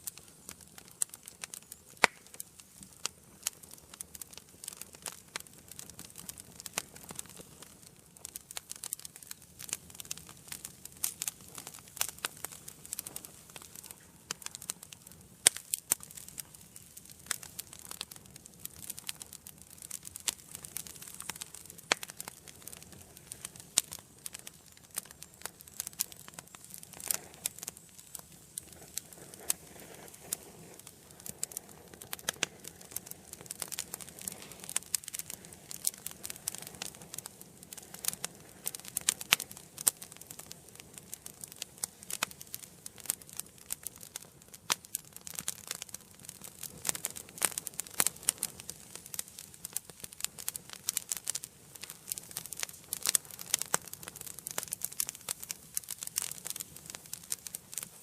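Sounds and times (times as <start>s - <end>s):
burning logs crackling and popping: 0.0s - 58.0s
soft hiss of flame: 0.0s - 58.0s.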